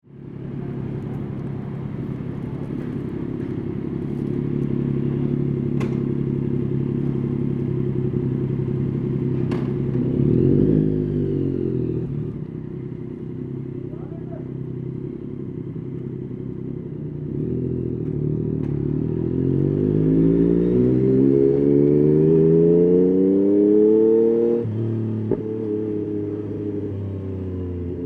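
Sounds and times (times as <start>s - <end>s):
motorcycle engine running: 0.1s - 28.0s.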